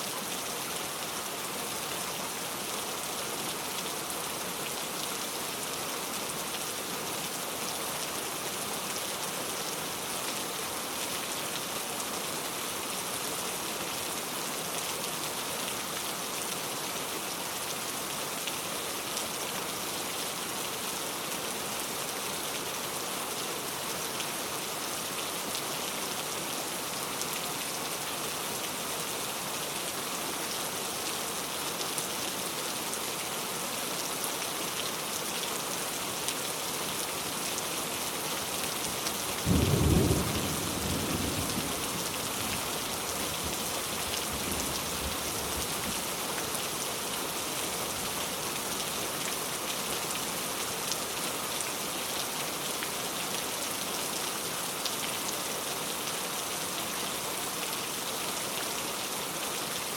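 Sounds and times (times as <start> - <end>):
heavy rain on a road: 0.0 - 59.9.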